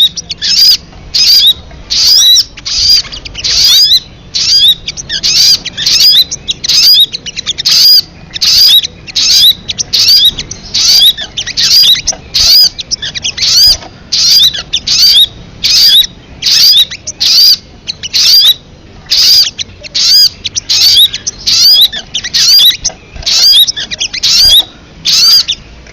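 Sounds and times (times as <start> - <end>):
bird chirping calls: 0.0 - 25.9.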